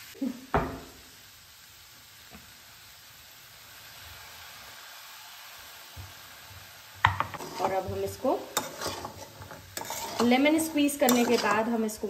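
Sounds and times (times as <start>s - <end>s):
faint sizzling in a pan: 0.0s - 12.0s.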